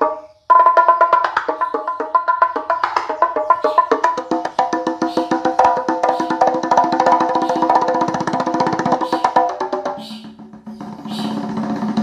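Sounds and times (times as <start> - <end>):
music with rapid ticking percussion: 0.0 - 12.0.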